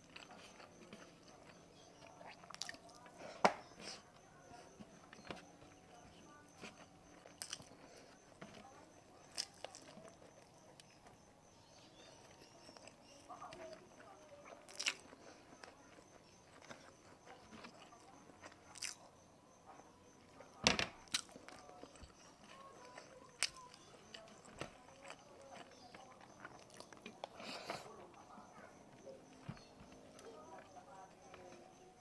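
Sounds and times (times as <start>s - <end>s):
chewing and biting: 0.0s - 32.0s.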